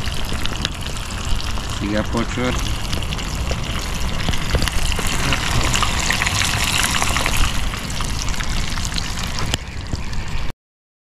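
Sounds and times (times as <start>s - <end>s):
small crackles: 0.0s - 10.1s
low rumble: 0.0s - 10.5s
water trickling and splashing: 0.0s - 10.5s.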